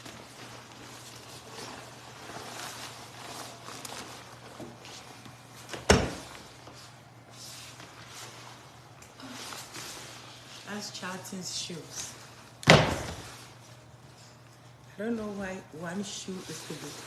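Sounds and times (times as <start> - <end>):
rustling and handling noises: 0.0 - 17.0.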